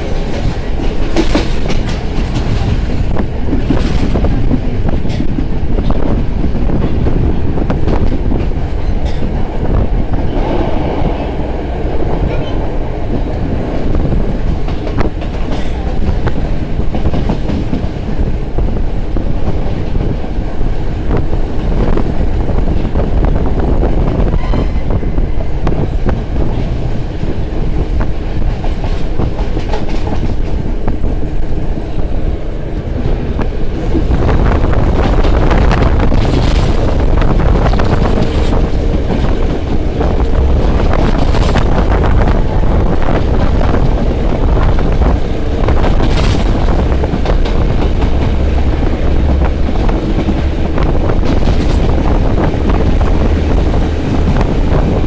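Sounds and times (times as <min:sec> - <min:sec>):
clickety-clack of rail joints: 0:00.0 - 0:55.0
train wheels rumbling on rails: 0:00.0 - 0:55.0.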